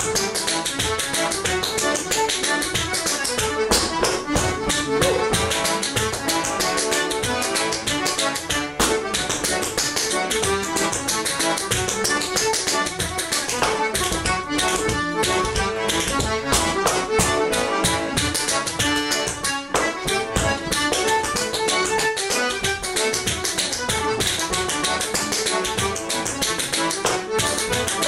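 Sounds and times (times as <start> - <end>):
button accordion dance tune: 0.0 - 28.0
dance steps on stone floor: 0.0 - 28.0.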